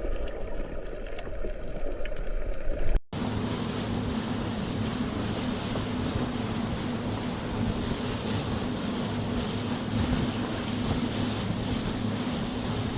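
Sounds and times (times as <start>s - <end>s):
sea water rushing: 0.0s - 12.9s
wind: 0.0s - 12.9s.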